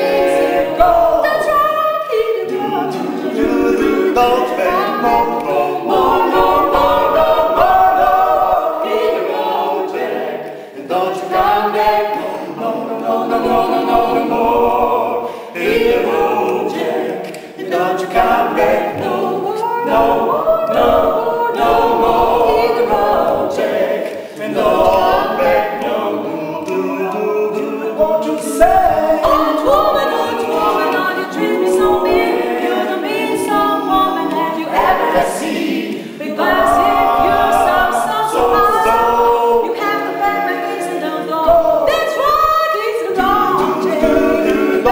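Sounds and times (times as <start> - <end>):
a cappella group singing in harmony: 0.0 - 44.9.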